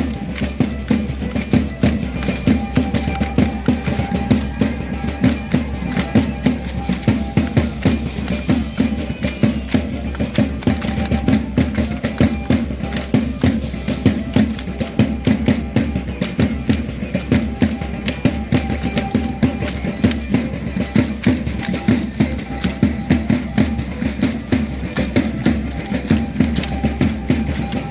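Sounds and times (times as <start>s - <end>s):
sharp rhythmic clicks and knocks: 0.0s - 27.9s
steady drum beat: 0.0s - 27.9s
violin melody: 0.0s - 27.9s.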